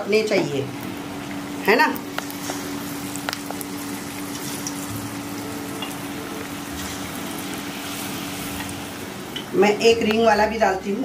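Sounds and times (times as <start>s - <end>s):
potato strips sizzling in oil: 0.0s - 11.0s.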